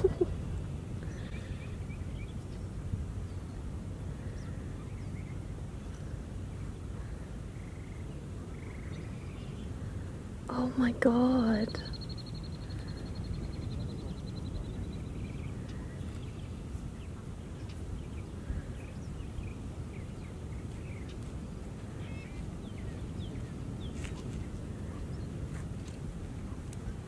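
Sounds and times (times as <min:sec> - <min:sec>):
wild birds calling: 0:00.0 - 0:10.3, 0:11.4 - 0:21.2, 0:21.8 - 0:25.5
steady low rumble: 0:00.0 - 0:27.0.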